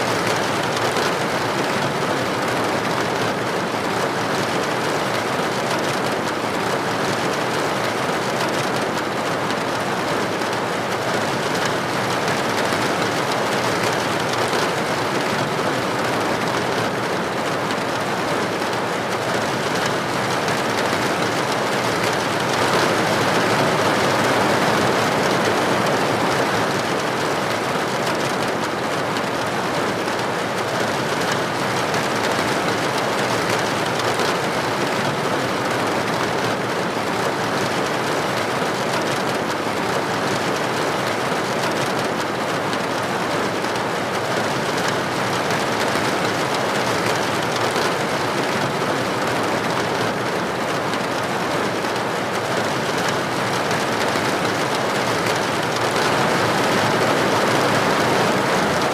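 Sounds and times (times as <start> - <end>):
dense rain falling: 0.0 - 58.9.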